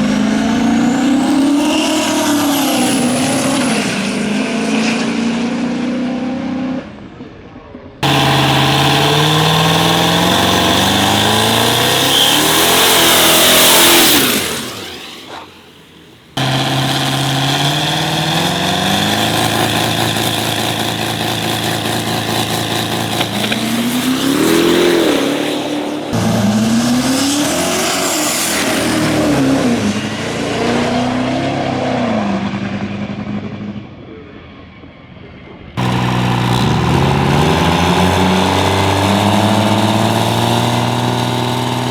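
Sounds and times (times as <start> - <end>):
diesel truck engines revving: 0.0 - 6.7, 8.0 - 33.5, 35.8 - 41.9.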